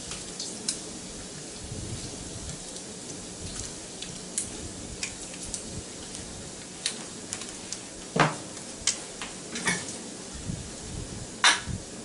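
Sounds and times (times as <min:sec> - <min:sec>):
bacon sizzling and popping in a pan: 0:00.0 - 0:10.0, 0:11.4 - 0:11.8.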